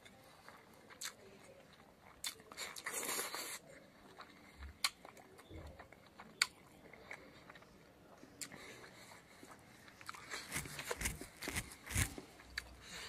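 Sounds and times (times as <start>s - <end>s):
man chewing with wet mouth clicks: 0.0s - 7.7s, 8.4s - 12.7s.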